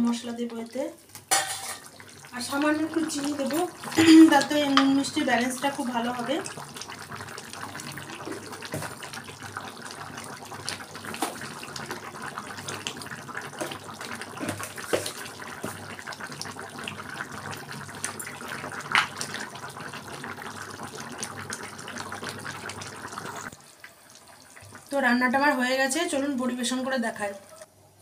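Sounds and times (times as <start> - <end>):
curry bubbling in a pan: 1.2 - 26.9.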